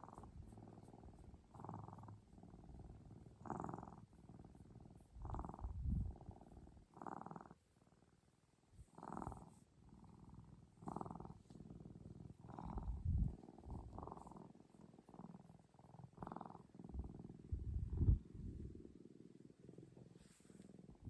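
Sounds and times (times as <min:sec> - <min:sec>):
low purring rumbles: 0:00.0 - 0:08.2, 0:08.8 - 0:21.0
cat purring: 0:00.0 - 0:21.0.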